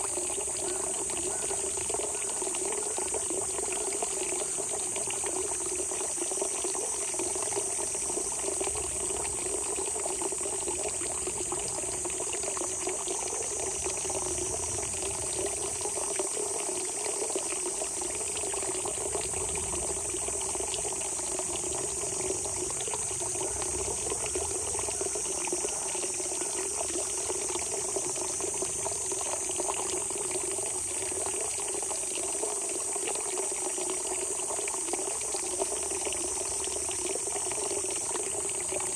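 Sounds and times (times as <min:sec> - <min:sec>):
high insect chorus: 0:00.0 - 0:38.9
water gurgling trickle: 0:00.0 - 0:38.9.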